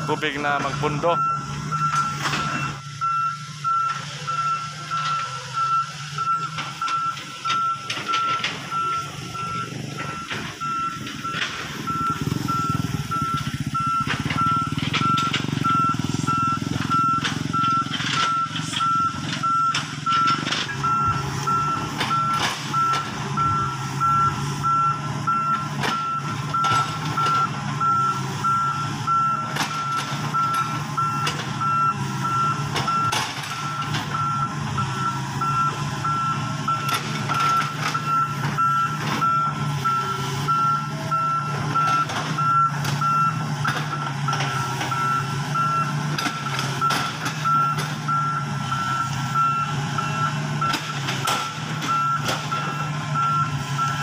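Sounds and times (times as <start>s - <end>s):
diesel engine rumble: 0.0s - 54.0s
excavator warning alarm beeping: 0.0s - 54.0s.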